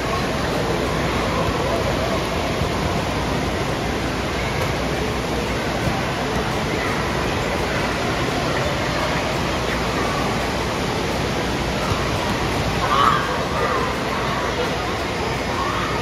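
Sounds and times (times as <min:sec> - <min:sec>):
running water and splashing: 0:00.0 - 0:16.0
voices echoing faintly: 0:00.0 - 0:16.0.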